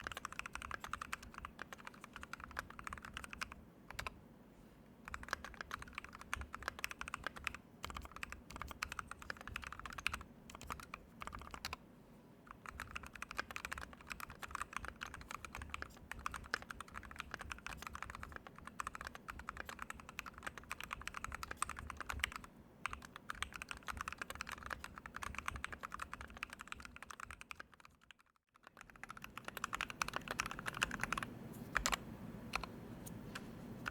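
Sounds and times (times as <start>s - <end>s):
mechanical keyboard typing: 0.0s - 4.2s, 5.0s - 11.8s, 12.5s - 33.9s.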